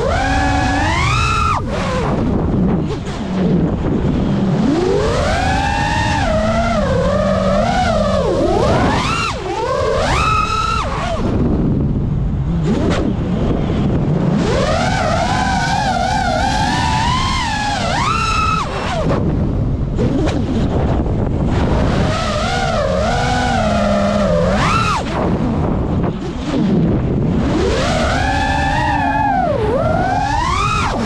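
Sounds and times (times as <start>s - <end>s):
prop wash and wind rush: 0.0s - 31.0s
quadcopter motors whining: 0.0s - 31.0s.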